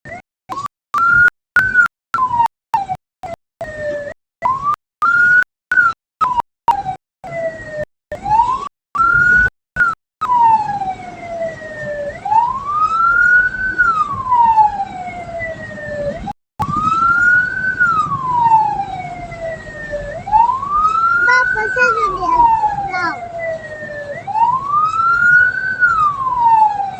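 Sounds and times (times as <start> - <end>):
road noise: 0.1 - 26.9
siren wailing: 0.1 - 26.9.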